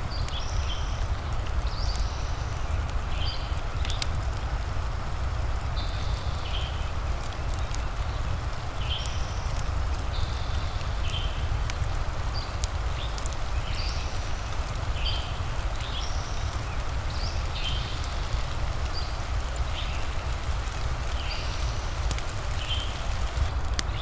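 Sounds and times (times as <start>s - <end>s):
fire crackling: 0.0s - 24.0s
rain: 0.0s - 24.0s.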